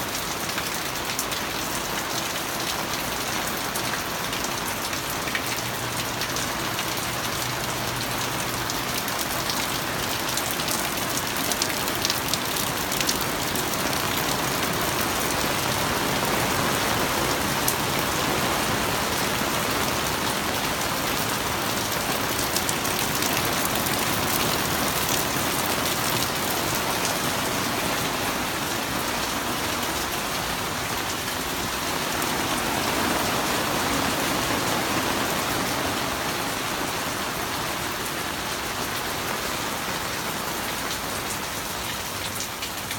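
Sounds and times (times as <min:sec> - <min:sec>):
heavy rain on hard surface: 0:00.0 - 0:42.9.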